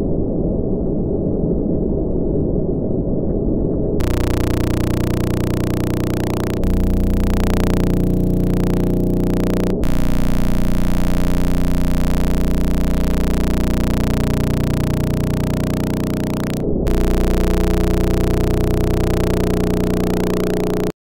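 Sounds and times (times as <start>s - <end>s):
low electronic hum: 4.0s - 21.0s.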